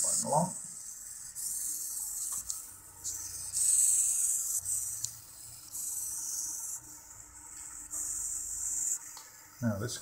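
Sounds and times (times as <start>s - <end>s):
servo whirring: 0.0s - 9.1s.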